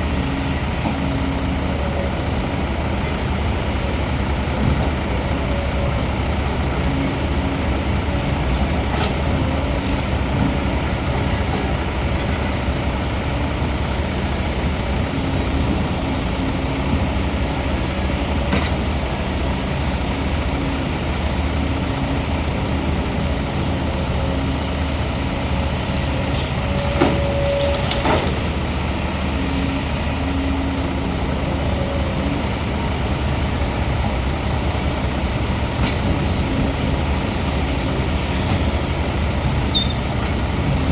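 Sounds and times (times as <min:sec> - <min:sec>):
engine whine: 0:00.0 - 0:40.9
excavator diesel engine running: 0:00.0 - 0:40.9.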